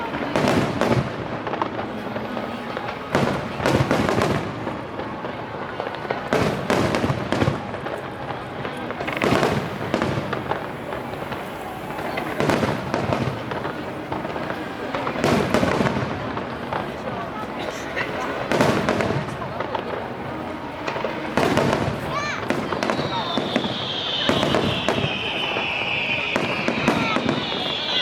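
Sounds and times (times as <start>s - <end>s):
fireworks bangs with crackle: 0.0s - 28.0s.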